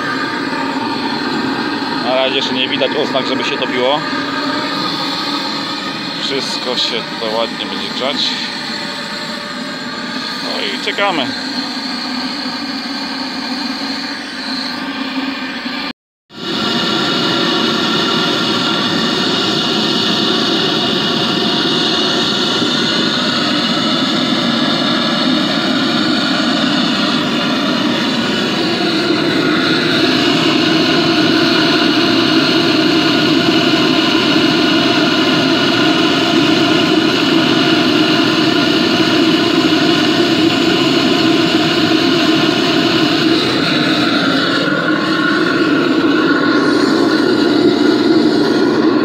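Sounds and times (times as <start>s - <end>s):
gas torch burner roaring: 0.0s - 49.0s.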